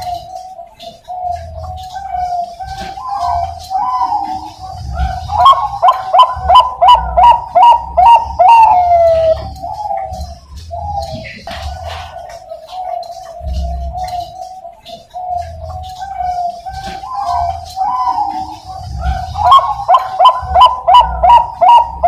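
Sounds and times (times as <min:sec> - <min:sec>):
dove cooing song: 0:00.0 - 0:22.0.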